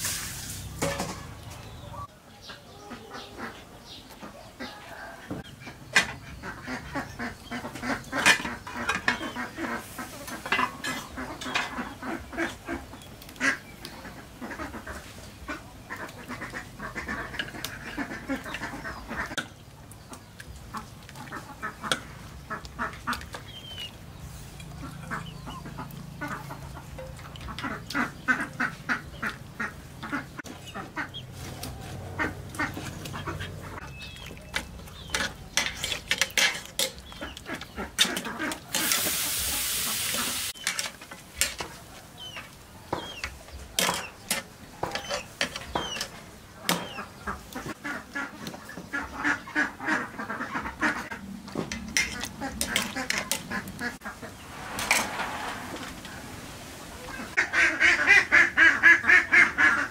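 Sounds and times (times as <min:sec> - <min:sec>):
ducks quacking: 0:00.5 - 0:40.8, 0:41.4 - 0:59.9.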